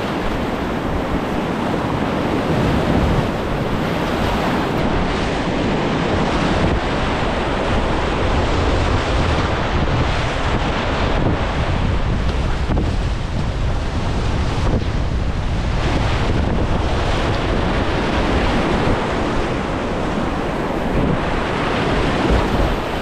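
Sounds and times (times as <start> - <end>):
whitewater rapids rushing: 0.0 - 23.0
wind buffeting microphone: 0.0 - 23.0.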